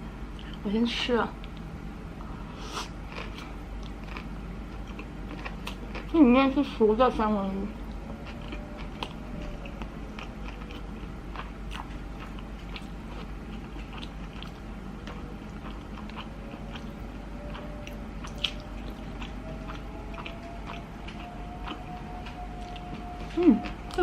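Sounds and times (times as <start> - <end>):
person chewing: 2.3 - 6.2, 7.8 - 24.0.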